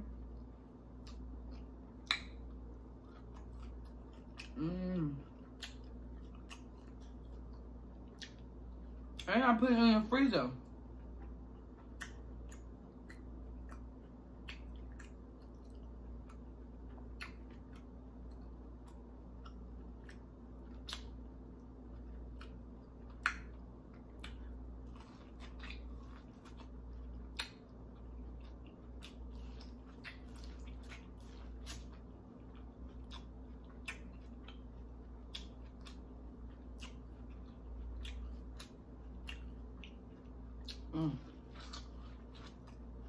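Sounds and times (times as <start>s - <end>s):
low steady hum: 0.0s - 43.0s
chewing corn on the cob: 0.2s - 9.3s, 10.6s - 43.0s.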